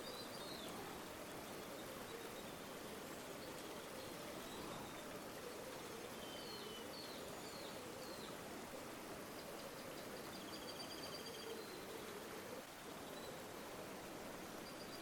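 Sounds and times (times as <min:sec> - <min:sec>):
river water flowing: 0:00.0 - 0:10.7, 0:11.6 - 0:15.0.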